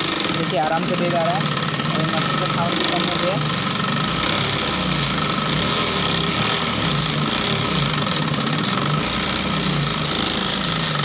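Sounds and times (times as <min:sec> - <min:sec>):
sewing machine running: 0:00.0 - 0:11.0.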